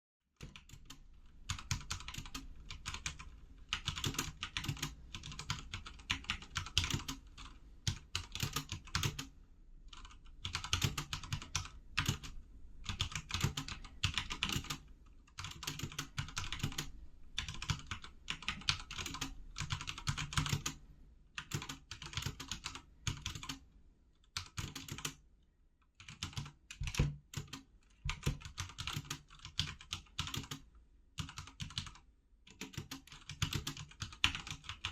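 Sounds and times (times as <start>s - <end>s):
mechanical keyboard typing: 0.4s - 9.3s, 9.9s - 20.8s, 21.4s - 23.6s, 24.2s - 25.2s, 26.0s - 34.9s.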